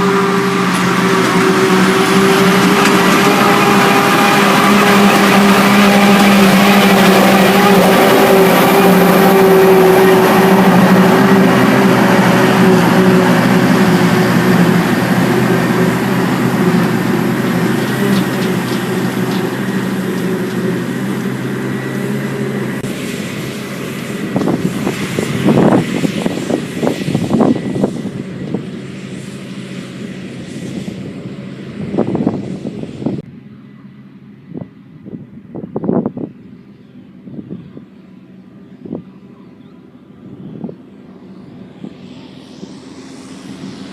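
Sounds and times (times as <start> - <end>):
large diesel engine running: 0.0 - 43.9.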